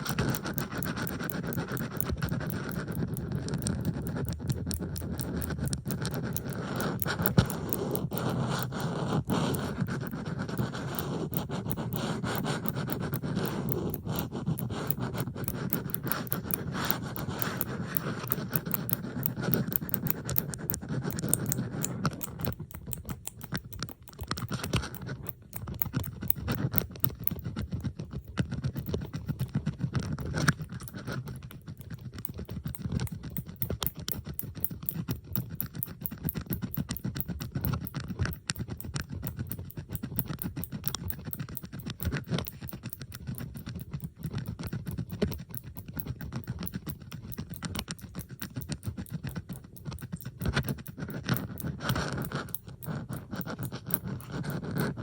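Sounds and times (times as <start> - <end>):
bobby pins clicking and scratching: 0.0 - 55.0.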